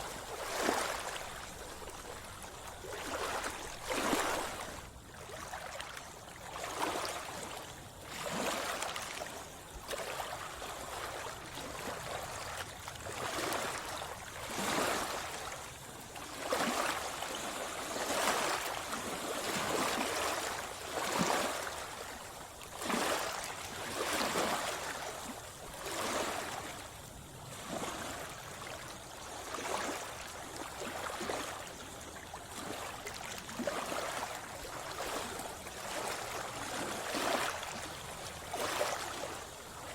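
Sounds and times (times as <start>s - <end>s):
sea water splashing: 0.0s - 26.8s, 29.4s - 39.9s.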